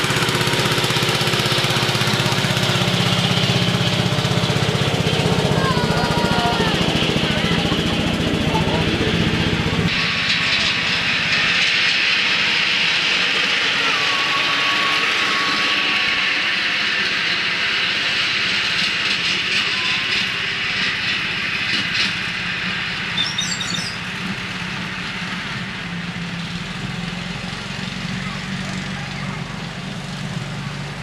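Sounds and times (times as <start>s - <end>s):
miniature train rolling rumble: 0.0s - 31.0s.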